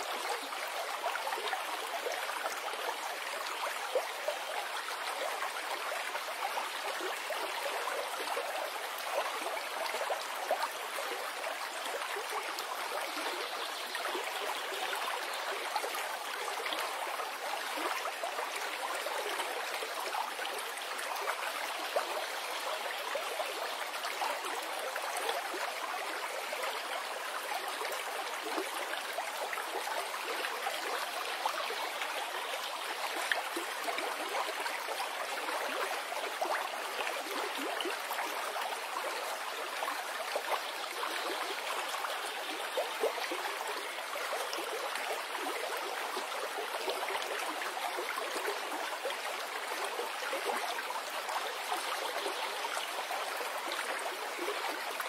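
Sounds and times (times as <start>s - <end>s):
stream flowing: 0.0s - 55.0s.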